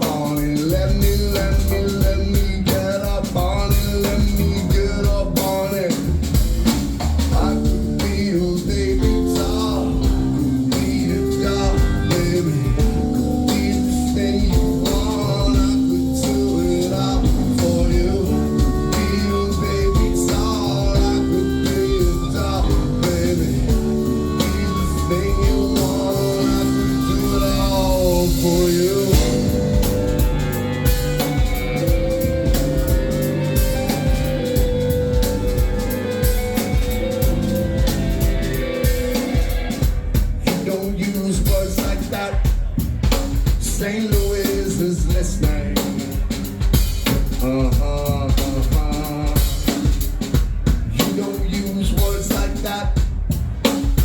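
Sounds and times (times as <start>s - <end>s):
alternative rock music: 0.0s - 54.0s
drums: 0.0s - 54.0s.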